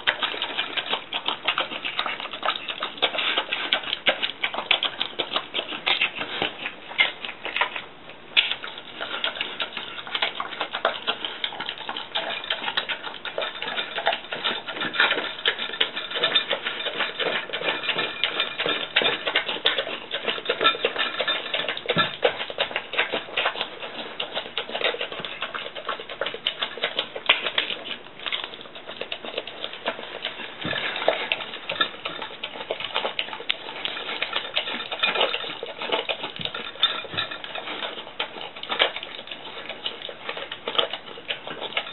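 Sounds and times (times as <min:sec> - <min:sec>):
dog chewing food: 0:00.0 - 0:41.9.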